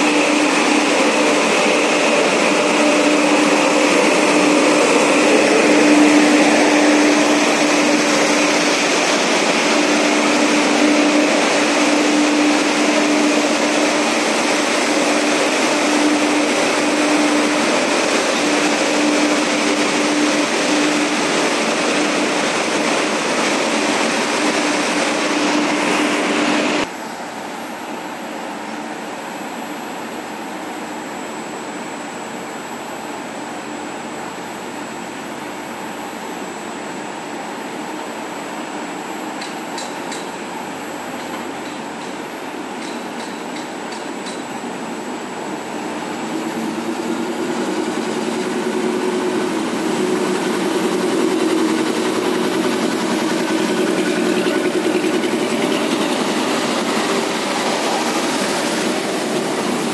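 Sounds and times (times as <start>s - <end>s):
steady hum: 0.0s - 37.5s, 44.4s - 59.9s
idling diesel trains drone: 0.0s - 59.9s.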